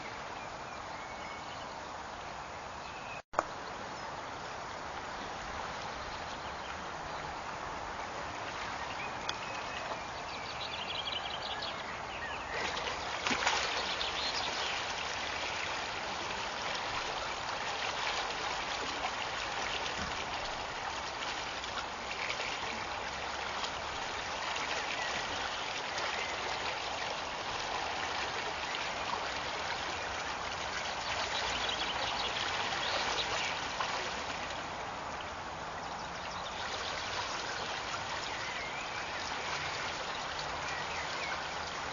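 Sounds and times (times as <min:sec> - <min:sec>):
water rushing along channel: 0:03.4 - 0:41.9.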